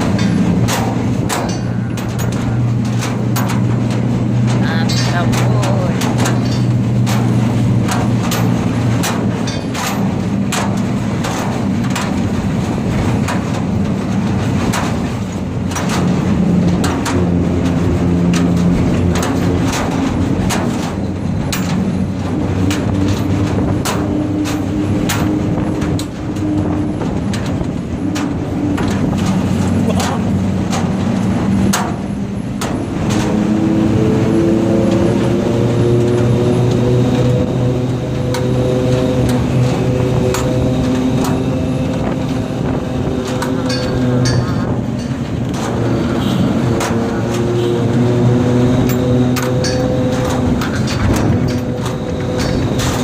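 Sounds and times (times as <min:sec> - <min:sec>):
diesel truck engine running: 0:00.0 - 0:53.0
sharp clicks and knocks: 0:00.0 - 0:53.0.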